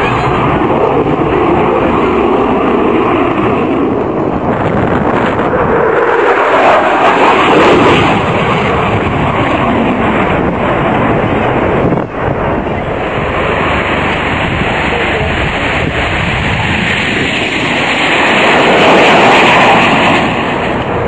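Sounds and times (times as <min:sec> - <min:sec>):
jet aircraft engine roar: 0:00.0 - 0:21.0.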